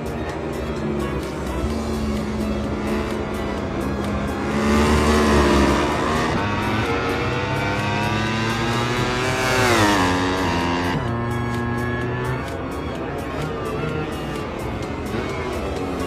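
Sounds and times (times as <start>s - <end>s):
racing motorcycle engine at high revs: 0.0s - 16.0s.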